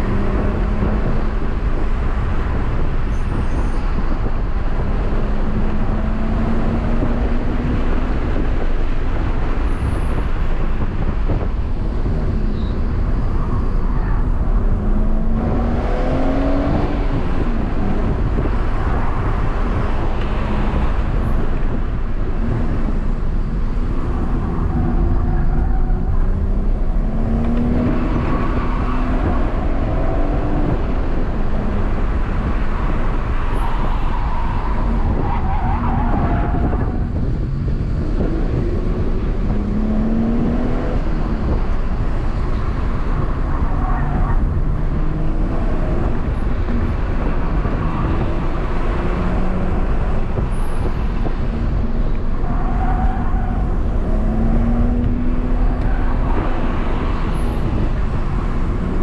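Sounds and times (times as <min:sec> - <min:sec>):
car engine accelerating: 0:00.0 - 0:59.0
road and tyre noise: 0:00.0 - 0:59.0.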